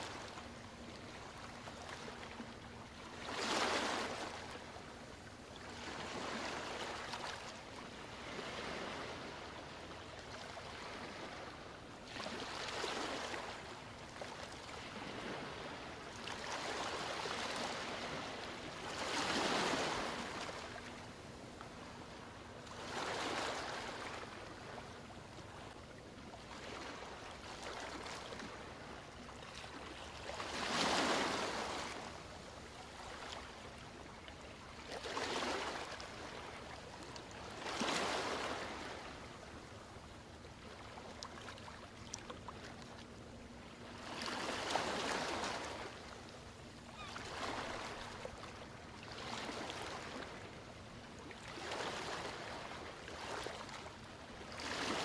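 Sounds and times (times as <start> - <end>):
waves breaking on shore: 0.0 - 5.0, 5.6 - 25.7, 26.4 - 39.7, 43.7 - 55.0.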